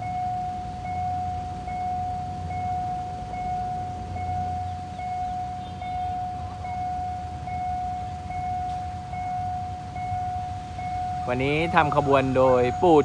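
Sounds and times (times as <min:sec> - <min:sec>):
level crossing warning tone: 0:00.0 - 0:13.0.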